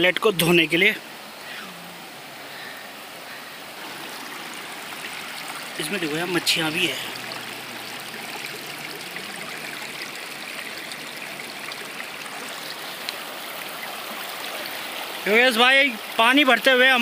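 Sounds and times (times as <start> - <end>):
stream flowing over rocks: 0.0 - 17.0.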